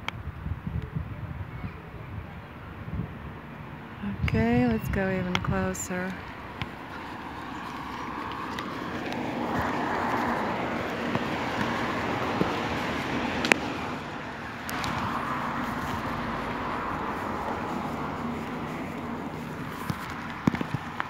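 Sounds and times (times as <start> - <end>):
cars passing on a road: 0.0 - 21.0.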